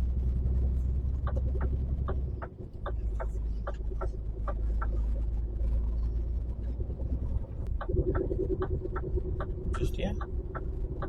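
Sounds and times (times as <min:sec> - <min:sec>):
truck diesel engine rumbling: 0:00.0 - 0:11.0
turn indicator ticking: 0:00.9 - 0:05.9, 0:06.8 - 0:11.0.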